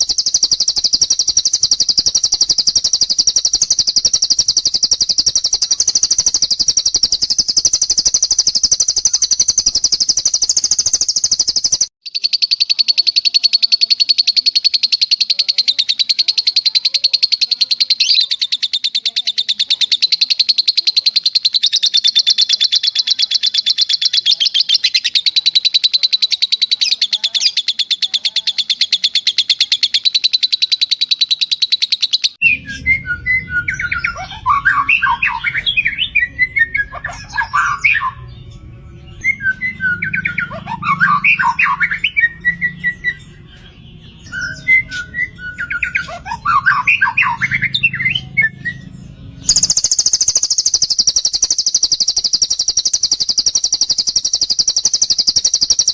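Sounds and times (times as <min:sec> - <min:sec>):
songbird fast trill: 0:00.0 - 0:55.9
songbird warbling song: 0:00.0 - 0:55.9.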